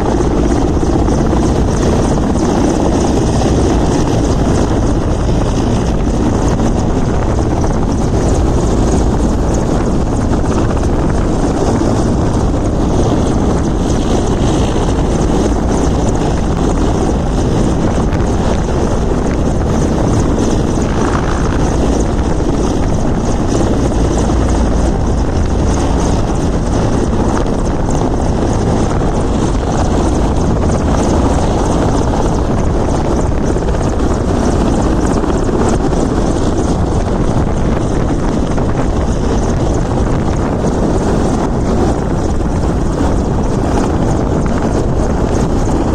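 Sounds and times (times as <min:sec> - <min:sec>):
helicopter rotor and engine: 0:00.0 - 0:45.9.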